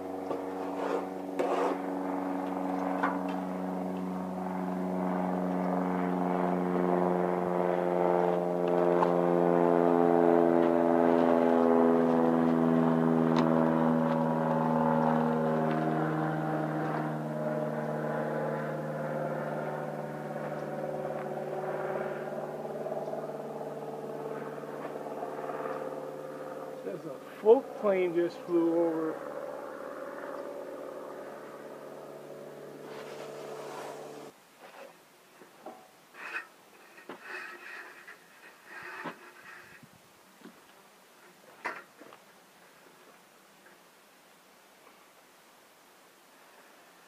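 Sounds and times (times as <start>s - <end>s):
propeller plane engine drone: 0.0s - 42.2s.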